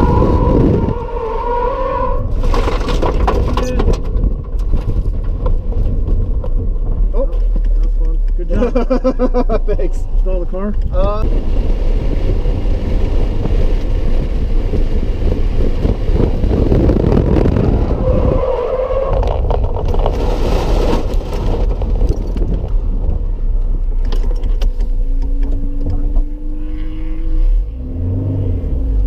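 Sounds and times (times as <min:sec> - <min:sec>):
car engine: 0:00.0 - 0:29.0
road noise: 0:00.0 - 0:29.0.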